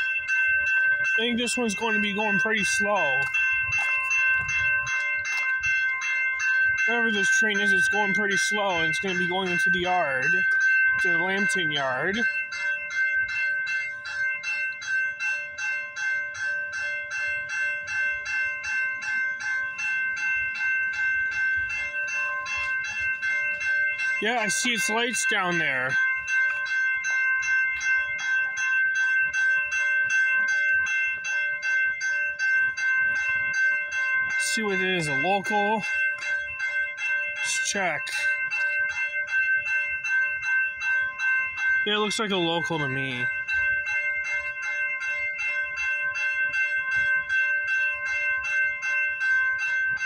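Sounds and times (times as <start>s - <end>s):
level-crossing warning bell: 0.0s - 50.0s.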